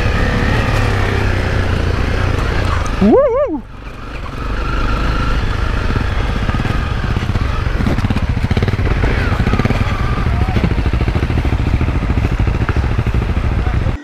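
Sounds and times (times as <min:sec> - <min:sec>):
motorcycle engine puttering: 0:00.0 - 0:14.0.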